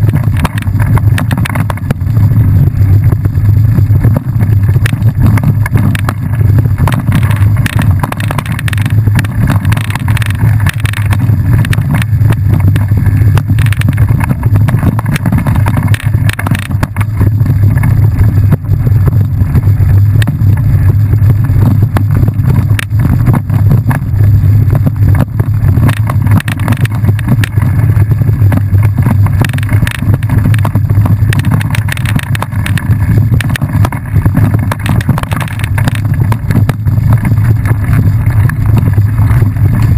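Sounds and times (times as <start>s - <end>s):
bike rattles and knocks: 0.0s - 39.9s
bike tyre noise on dirt: 0.0s - 39.9s
wind rumble on microphone: 0.0s - 39.9s.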